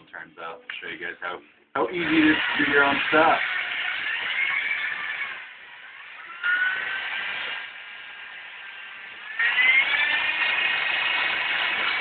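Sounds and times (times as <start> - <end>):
power tool motor whine: 1.9 - 12.0.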